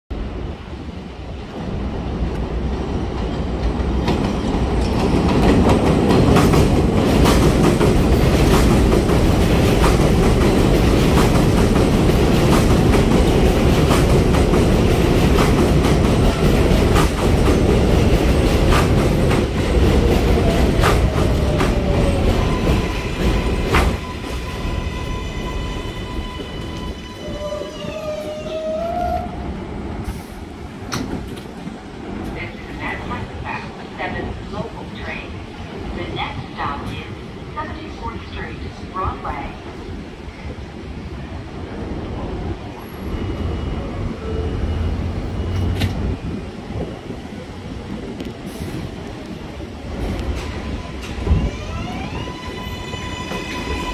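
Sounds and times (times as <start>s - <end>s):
train wheels rumbling: 0.2s - 53.9s.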